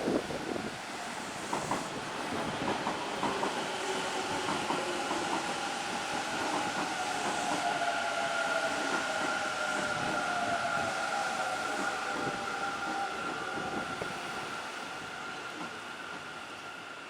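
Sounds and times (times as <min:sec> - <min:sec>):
electric train whine: 0:00.0 - 0:17.0.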